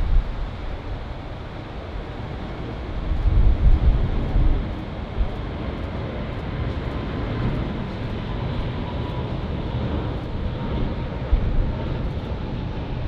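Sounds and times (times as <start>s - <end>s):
jet engines rumbling at takeoff: 0.0s - 13.0s.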